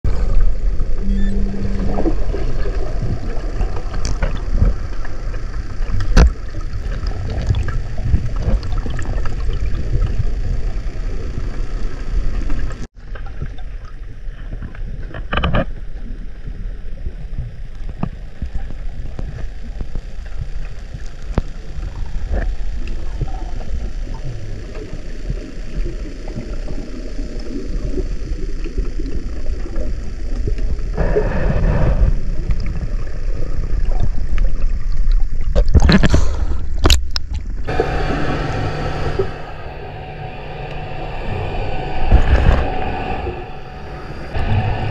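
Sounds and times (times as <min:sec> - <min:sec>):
muffled underwater rumble: 0:00.0 - 0:44.9.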